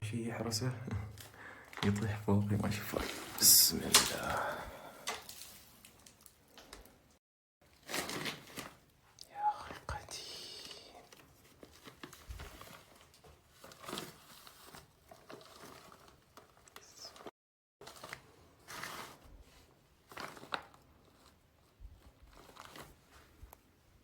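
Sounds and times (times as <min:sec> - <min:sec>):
book pages rustling and crinkling: 0:01.0 - 0:07.0, 0:07.6 - 0:10.2, 0:10.8 - 0:24.0.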